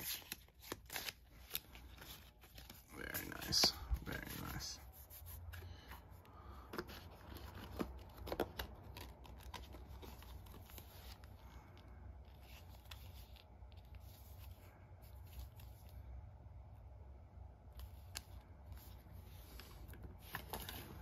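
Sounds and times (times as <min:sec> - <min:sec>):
playing cards rustling and clicking: 0:00.0 - 0:16.1, 0:17.6 - 0:21.0
low steady hum: 0:00.0 - 0:21.0.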